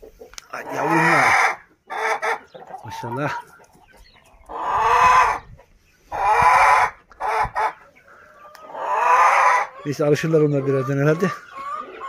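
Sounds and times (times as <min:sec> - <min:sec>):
chickens calling harshly: 0:00.0 - 0:12.0.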